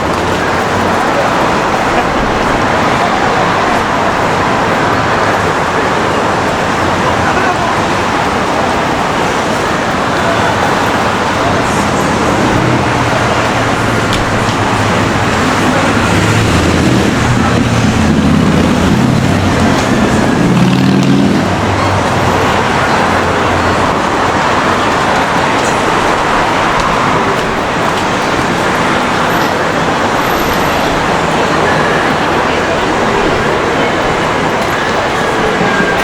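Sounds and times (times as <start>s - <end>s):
traffic hiss: 0.0s - 36.0s
vehicle engine running: 0.0s - 36.0s.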